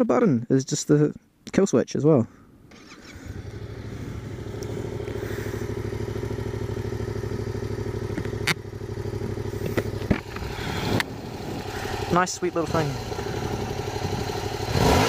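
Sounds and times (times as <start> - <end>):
motorcycle engine idling: 2.6 - 15.0.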